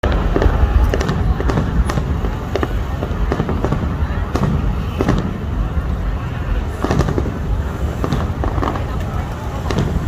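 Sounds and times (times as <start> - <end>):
continuous low rumble: 0.0 - 10.0
fireworks banging and popping: 0.0 - 10.0.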